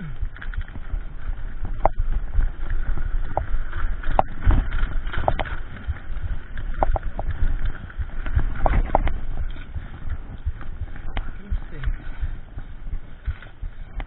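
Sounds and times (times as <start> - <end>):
bike clicks and knocks: 0.0 - 14.0
bike tyres rumbling on dirt: 0.0 - 14.0.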